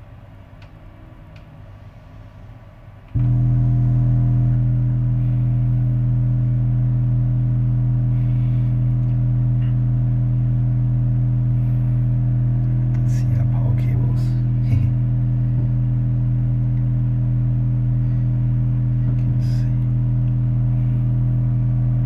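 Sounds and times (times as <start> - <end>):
faint low hum: 0.0 - 22.0
low test tone from speaker: 3.1 - 22.0.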